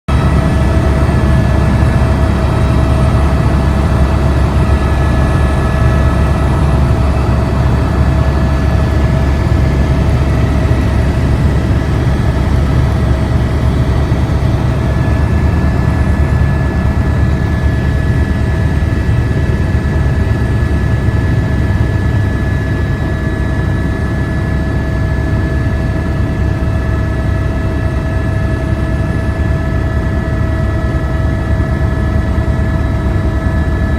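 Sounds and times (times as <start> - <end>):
constant hum tones: 0.1 - 33.9.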